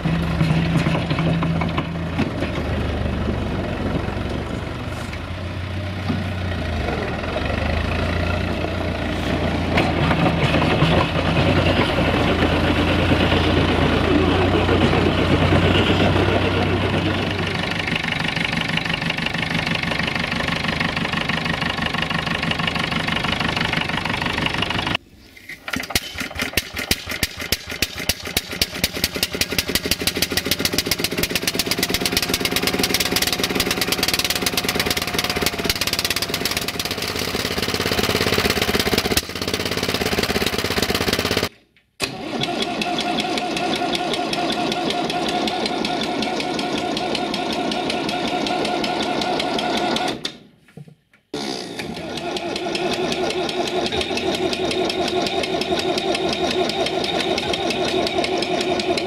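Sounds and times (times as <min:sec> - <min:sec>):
tractor engine running: 0:00.0 - 0:50.3, 0:51.3 - 0:59.0
mower engine starting and running: 0:00.0 - 0:50.5, 0:51.3 - 0:59.0.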